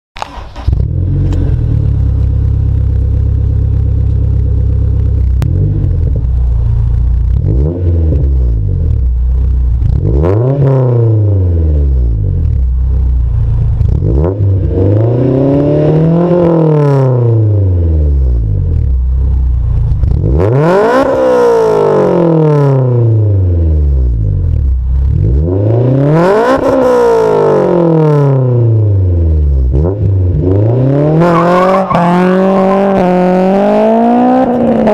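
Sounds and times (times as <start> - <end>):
car engine idling and revving: 0.2 - 34.9.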